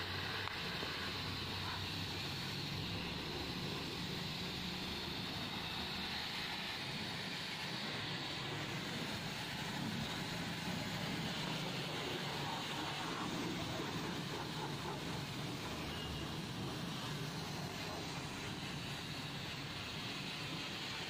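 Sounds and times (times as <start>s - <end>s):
pressure washer spraying water: 0.0s - 21.0s.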